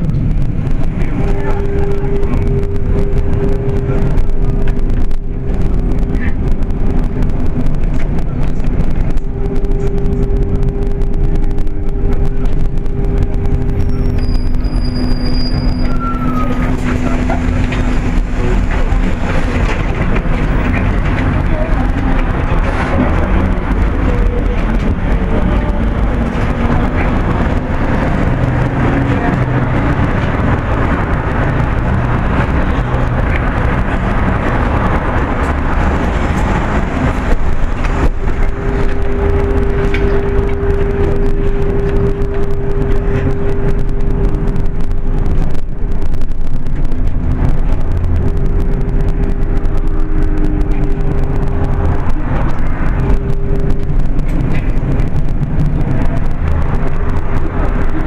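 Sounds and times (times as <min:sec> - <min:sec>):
mid-pitched whine: 0:00.0 - 0:58.0
road vehicle rumble: 0:00.0 - 0:58.0.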